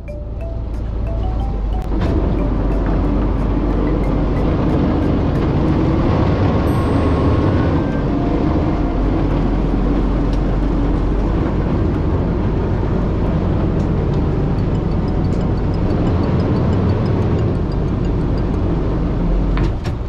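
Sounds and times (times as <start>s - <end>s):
boat engine droning: 0.0s - 19.8s.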